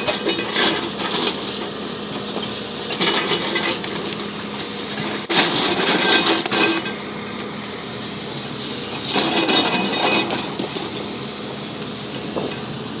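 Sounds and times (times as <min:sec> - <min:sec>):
bulldozer engine running: 0:00.0 - 0:13.0.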